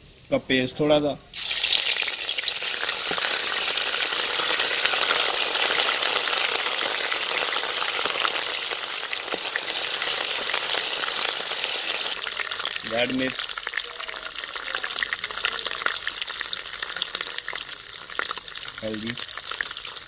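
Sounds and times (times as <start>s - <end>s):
paste sizzling in hot oil: 1.3s - 20.0s.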